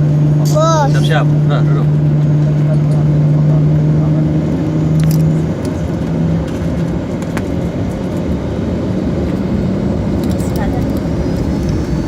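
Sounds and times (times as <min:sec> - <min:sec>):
airliner engines droning: 0:00.0 - 0:12.0
low hum: 0:01.2 - 0:12.0.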